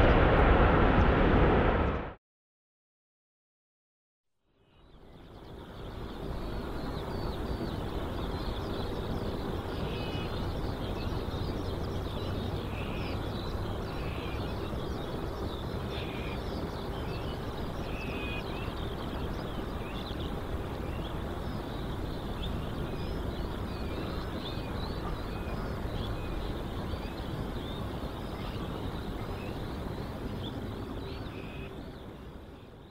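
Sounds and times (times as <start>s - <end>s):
distant jet engines rumbling: 0.0s - 2.1s, 5.3s - 32.9s
small birds chirping: 4.6s - 32.9s.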